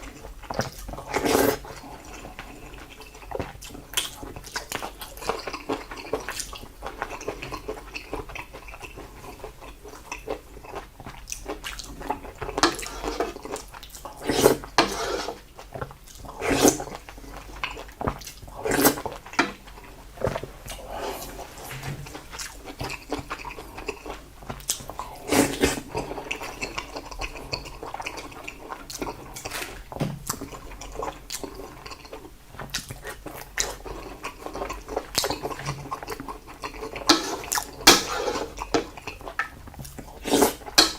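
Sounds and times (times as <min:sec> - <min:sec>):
wet chewing and mouth sounds: 0:00.0 - 0:40.9.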